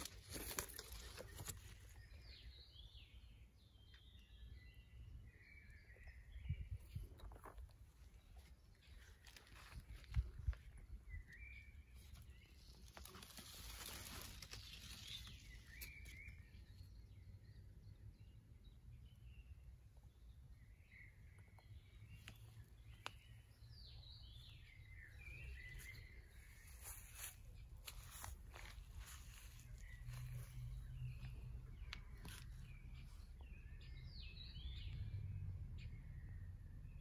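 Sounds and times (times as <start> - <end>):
birds chirping faintly: 0.0 - 37.0.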